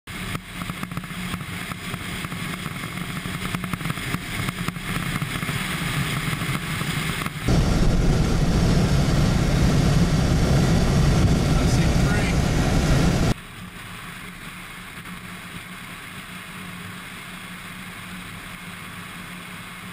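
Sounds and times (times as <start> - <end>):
car road and wind noise: 0.1 - 19.9.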